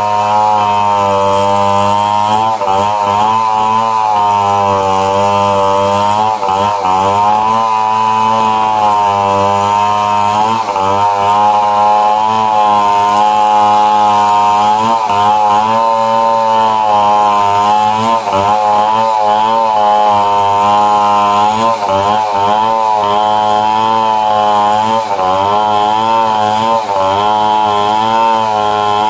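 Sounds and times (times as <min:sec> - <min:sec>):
chainsaw cutting a tree: 0:00.0 - 0:29.0.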